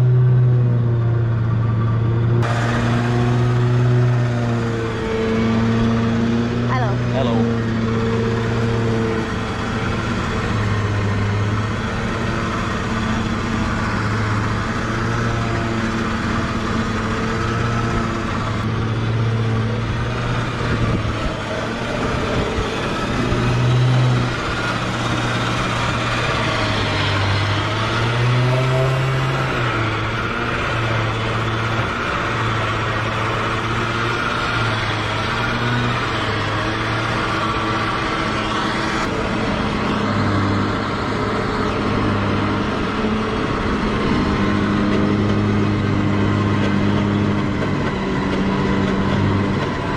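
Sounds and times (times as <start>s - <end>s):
electric winch motor hum: 0.0s - 49.9s.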